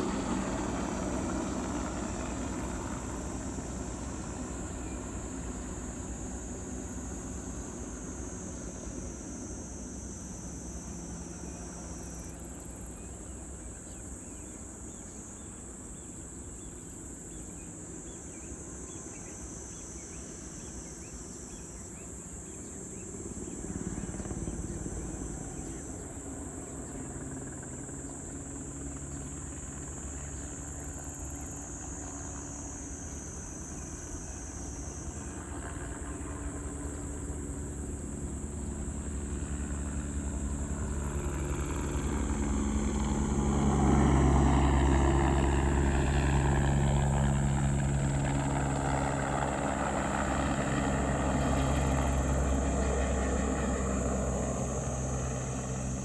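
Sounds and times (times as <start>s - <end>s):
helicopter flying by: 0.0s - 56.0s
insects chirping: 0.0s - 56.0s.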